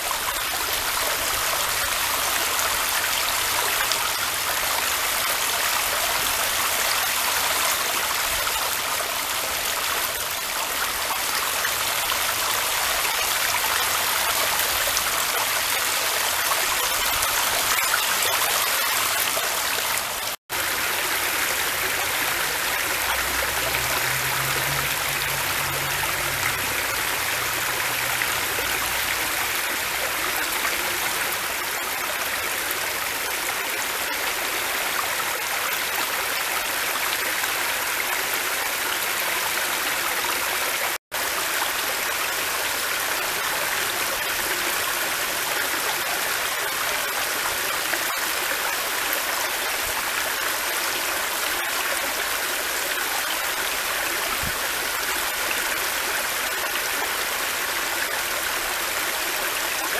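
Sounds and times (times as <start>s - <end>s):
creek water rushing over ledges: 0.0s - 59.9s.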